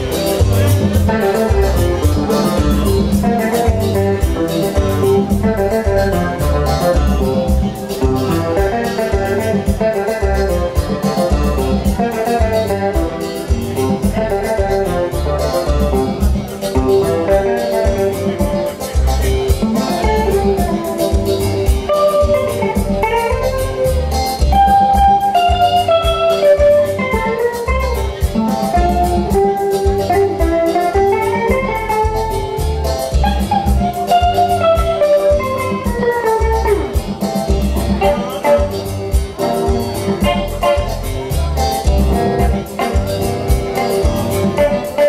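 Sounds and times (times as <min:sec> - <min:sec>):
bass and drum beat: 0:00.0 - 0:45.0
electric guitar lead melody: 0:00.0 - 0:45.0.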